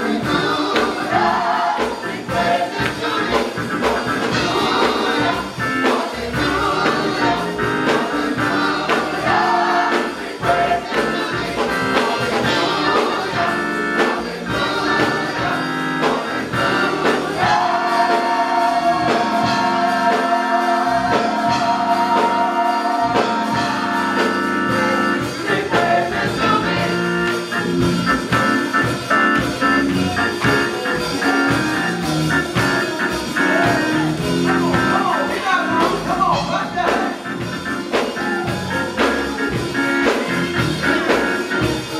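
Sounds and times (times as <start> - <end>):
gospel choir singing: 0.0 - 41.9
instrumental accompaniment: 0.0 - 41.9.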